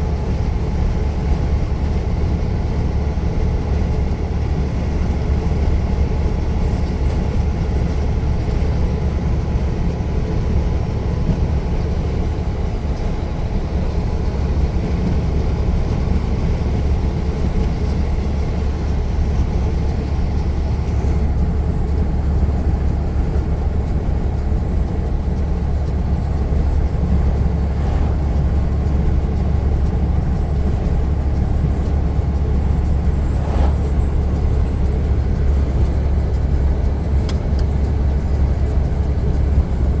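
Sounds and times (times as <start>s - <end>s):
road rumble: 0.0s - 40.0s
truck engine drone: 0.0s - 40.0s.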